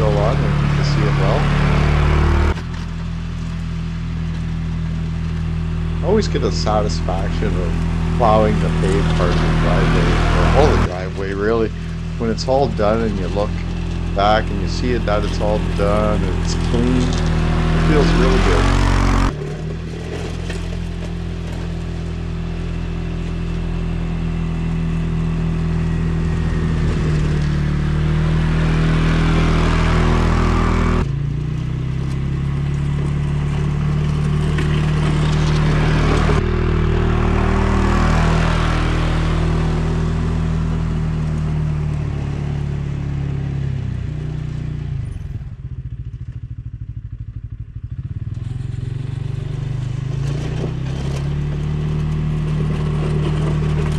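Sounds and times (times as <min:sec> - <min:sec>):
snow scraped by plow blade: 0:00.0 - 0:45.4, 0:48.0 - 0:53.9
atv engine running: 0:00.0 - 0:53.9.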